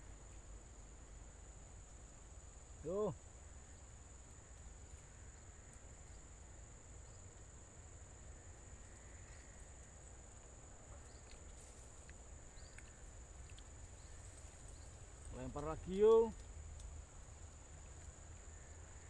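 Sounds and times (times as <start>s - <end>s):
high-pitched insect trill: 0.6s - 19.0s.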